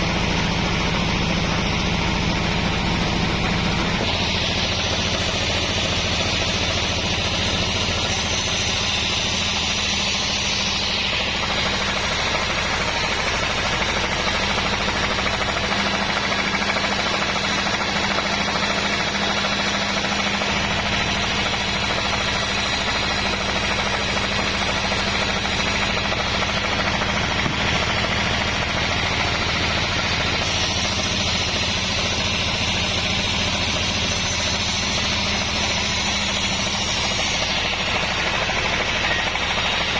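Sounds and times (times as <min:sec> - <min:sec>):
machine hum: 0:00.0 - 0:39.9
sawmill saw cutting log: 0:00.0 - 0:39.9.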